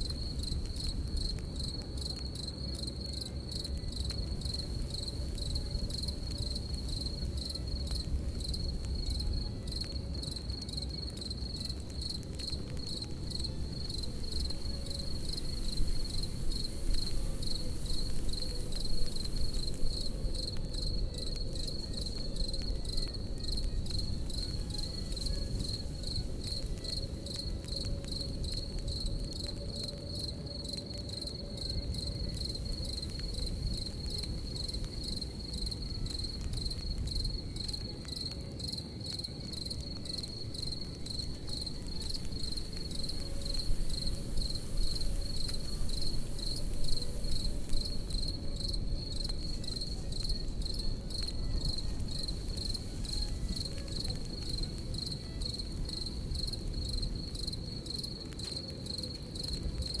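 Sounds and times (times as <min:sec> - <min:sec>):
campfire crackling and popping: 0:00.0 - 1:00.0
crickets chirping: 0:00.0 - 1:00.0.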